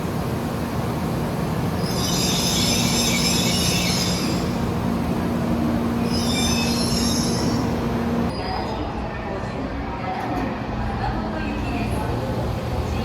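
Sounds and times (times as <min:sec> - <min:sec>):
train moving along platform: 0:00.0 - 0:13.0.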